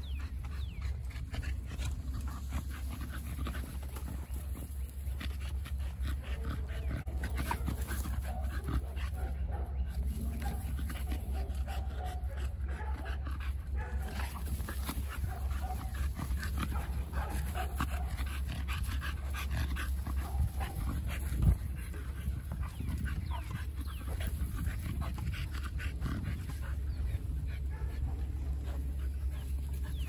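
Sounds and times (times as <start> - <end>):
dogs panting: 0.0 - 30.0.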